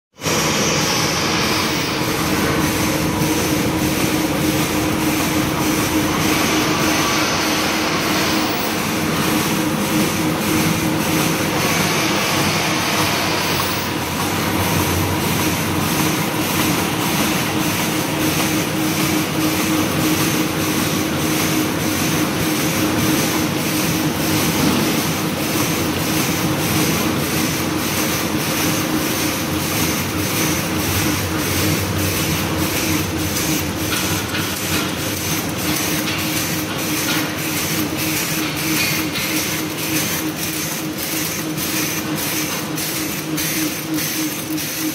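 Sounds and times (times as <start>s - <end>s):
packing machine hum: 0.2s - 44.9s
machine clacking: 1.0s - 44.9s.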